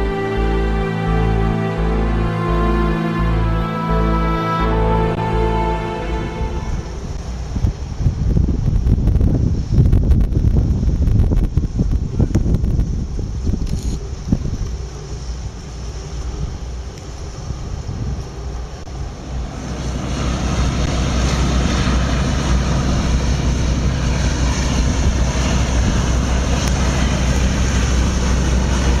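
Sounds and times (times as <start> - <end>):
rush of bow wave: 0.0 - 9.8, 10.4 - 29.0
boat diesel engines humming: 0.0 - 10.6, 12.7 - 29.0.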